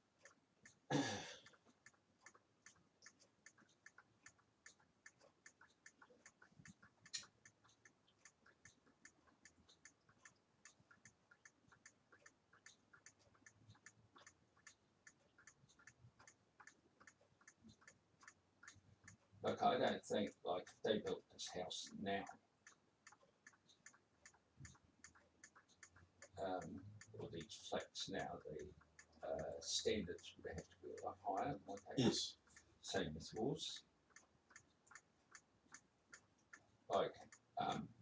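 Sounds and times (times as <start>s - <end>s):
faint rapid ticking: 0.0s - 38.0s.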